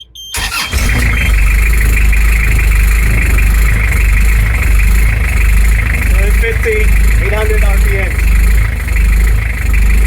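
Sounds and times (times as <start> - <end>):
engine idling roughly and surging: 0.4 - 10.0.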